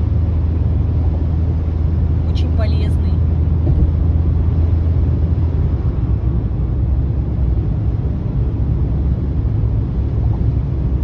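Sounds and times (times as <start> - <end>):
road and tyre noise inside car: 0.0 - 11.0.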